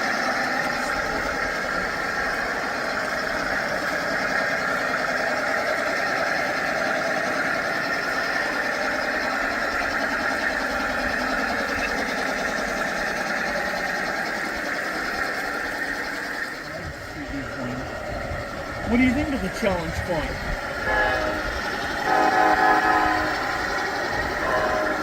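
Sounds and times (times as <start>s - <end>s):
model diesel locomotive engines: 0.0s - 25.0s.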